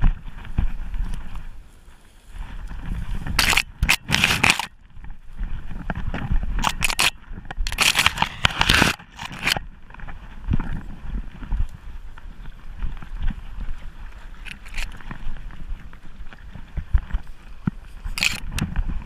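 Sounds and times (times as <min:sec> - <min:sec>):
fronds swishing against camera: 0:00.0 - 0:19.0.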